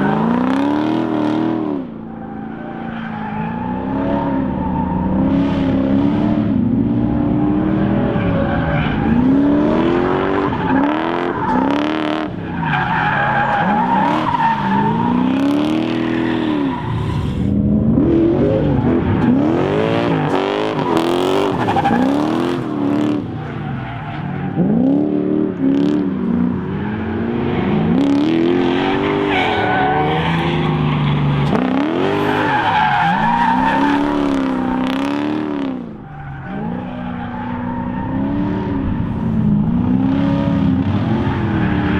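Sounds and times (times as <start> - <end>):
tires squealing and skidding: 0.0 - 41.9
engine revving: 3.4 - 23.8, 24.5 - 41.9.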